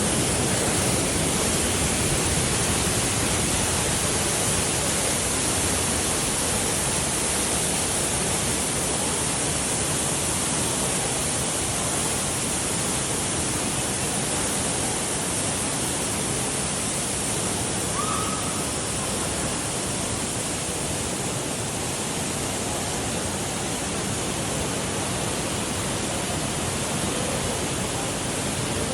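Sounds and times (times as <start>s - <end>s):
waterfall roaring: 0.0s - 28.9s.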